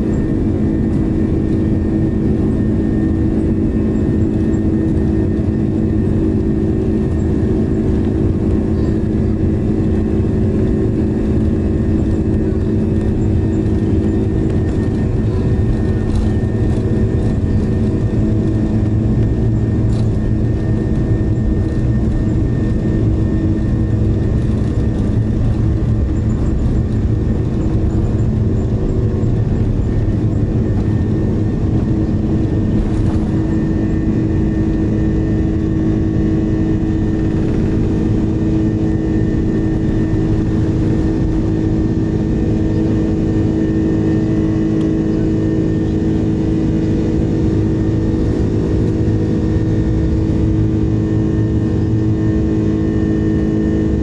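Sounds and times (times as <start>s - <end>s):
jet engines roaring at takeoff: 0.0s - 54.0s.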